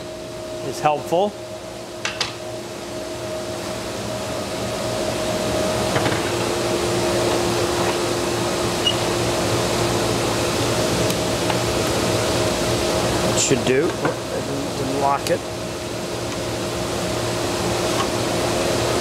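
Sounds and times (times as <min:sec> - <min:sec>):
shop machinery humming: 0:00.0 - 0:19.0.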